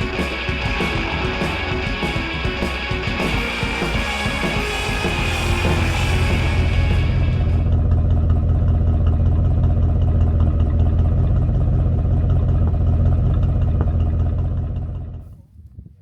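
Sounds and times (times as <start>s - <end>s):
car engine rumbling: 0.0s - 15.5s.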